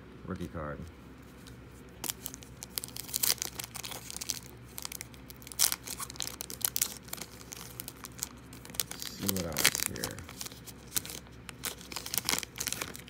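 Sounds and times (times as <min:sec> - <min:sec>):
wrapper tearing and crinkling: 0:02.0 - 0:13.0.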